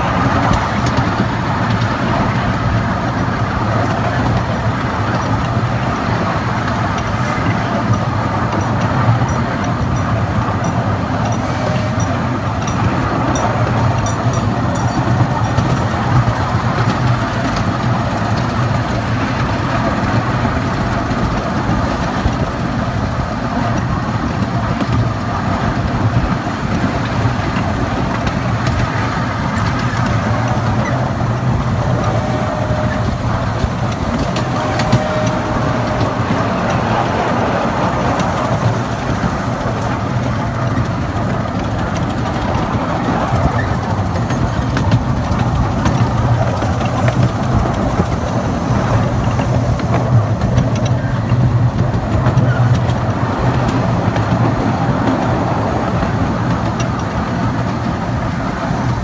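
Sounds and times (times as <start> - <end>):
train cars rumbling on rails: 0.0 - 59.0.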